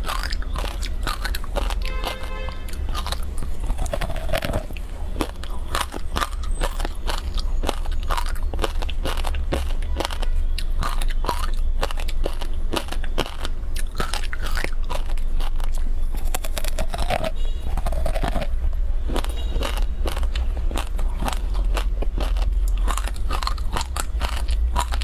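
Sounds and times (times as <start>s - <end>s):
ice crunching while chewed: 0.0s - 25.0s.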